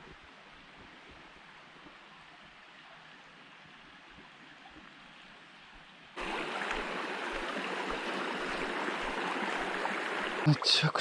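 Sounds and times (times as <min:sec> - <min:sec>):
stream water rushing: 0:01.4 - 0:11.0.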